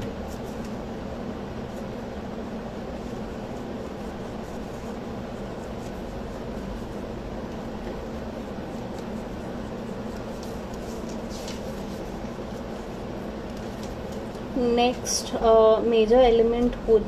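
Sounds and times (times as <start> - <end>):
room noise hum: 0.0 - 17.0.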